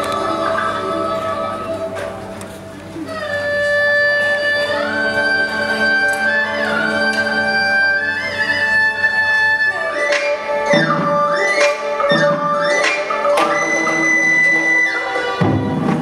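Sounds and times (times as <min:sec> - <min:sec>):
bowed fiddle melody: 0:00.0 - 0:16.0.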